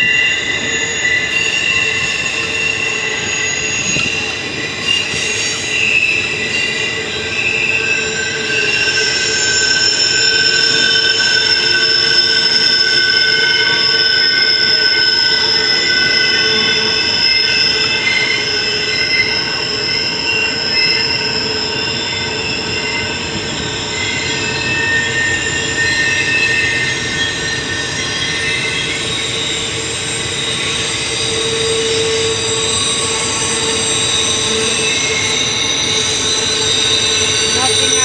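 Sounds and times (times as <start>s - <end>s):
high-pitched wheel squeals: 0.0s - 38.0s
steel wheels rumbling on rail: 0.0s - 38.0s.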